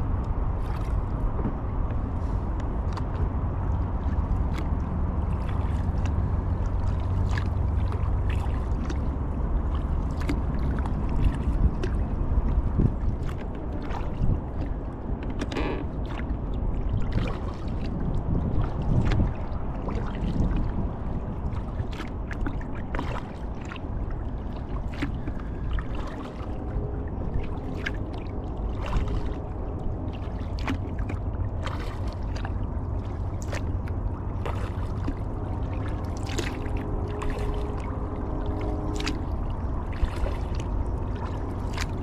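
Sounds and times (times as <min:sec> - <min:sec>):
steady low rumble: 0:00.0 - 0:42.0
paddle splashes and drips: 0:00.1 - 0:42.0.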